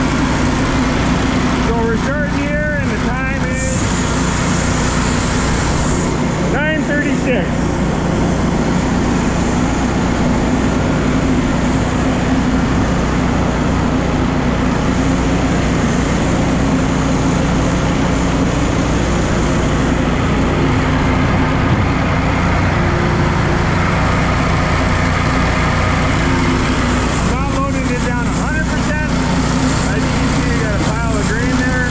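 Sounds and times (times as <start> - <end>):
belt conveyor droning: 0.0 - 31.9.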